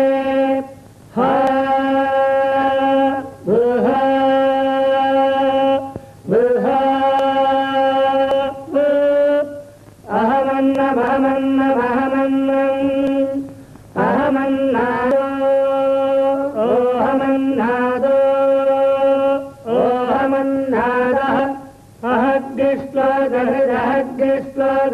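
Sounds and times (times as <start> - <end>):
person chanting in held notes: 0.0 - 24.9.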